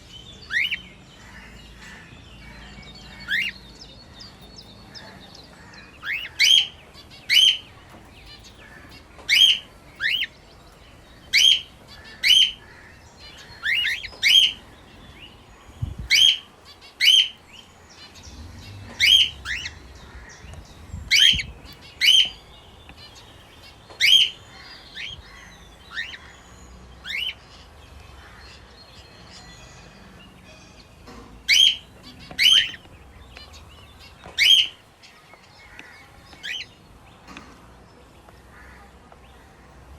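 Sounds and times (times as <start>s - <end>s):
faint bird chirping: 0.0s - 39.9s.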